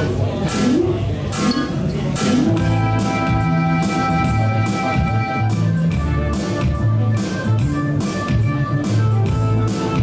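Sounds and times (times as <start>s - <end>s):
held chords over bass note: 0.5s - 10.0s.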